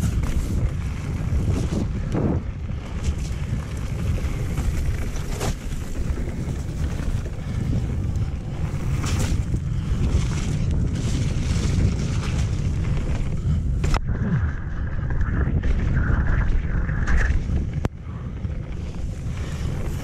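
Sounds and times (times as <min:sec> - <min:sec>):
bike knocking over rough ground: 0:00.0 - 0:17.8
wind buffeting microphone: 0:00.0 - 0:20.0.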